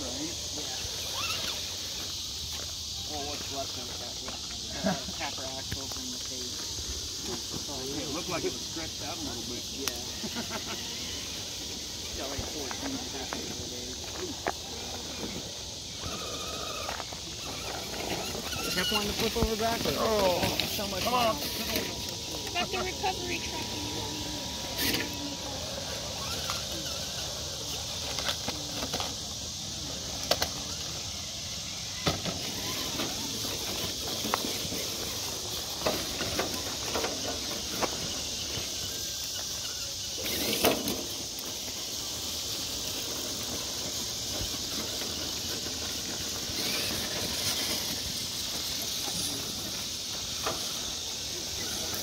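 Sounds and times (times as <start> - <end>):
night insects chorus: 0.0 - 52.0.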